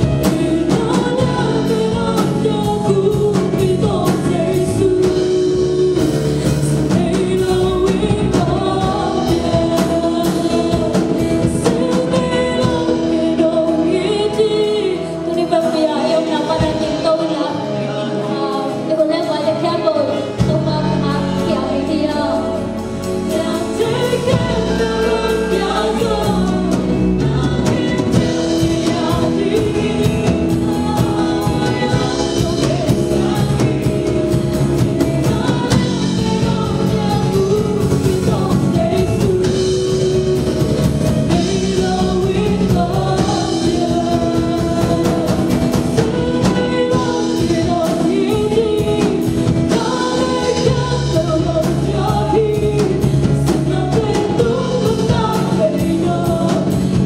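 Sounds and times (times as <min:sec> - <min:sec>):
drum kit beat: 0:00.0 - 0:14.6, 0:22.6 - 0:57.0
keyboard: 0:00.0 - 0:57.0
women singing: 0:00.0 - 0:57.0.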